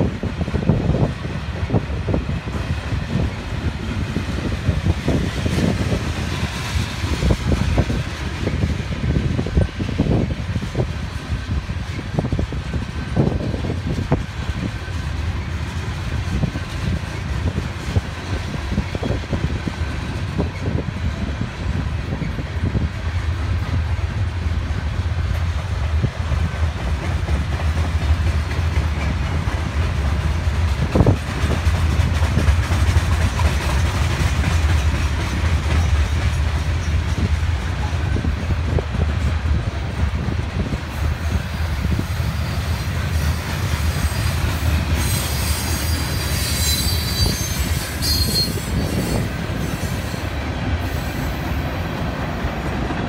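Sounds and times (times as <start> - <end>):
freight train rolling past: 0.0 - 53.0
train wheels clicking and knocking: 0.0 - 53.0.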